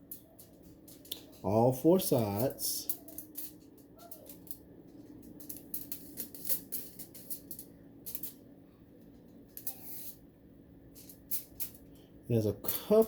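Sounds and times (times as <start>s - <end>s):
aluminium foil crinkling: 0.0s - 10.2s, 10.9s - 13.0s.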